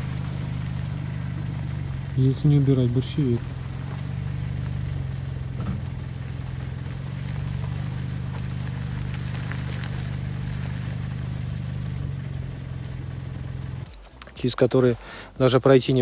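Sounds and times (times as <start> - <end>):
engine running low hum: 0.0 - 16.0.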